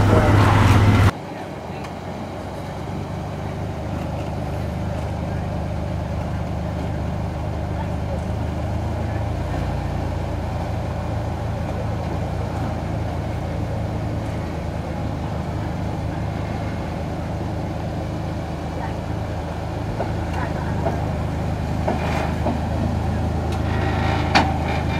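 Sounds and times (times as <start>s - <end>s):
engine running low: 0.0s - 24.9s.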